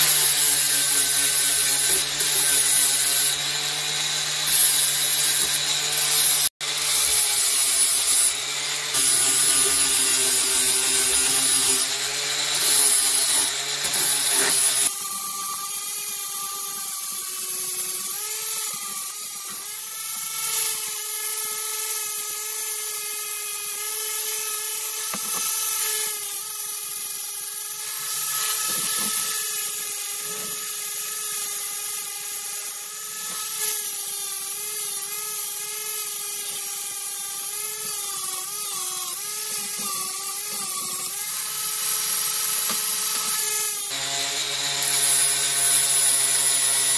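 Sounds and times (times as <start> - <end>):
angle grinder grinding metal: 0.0 - 46.9.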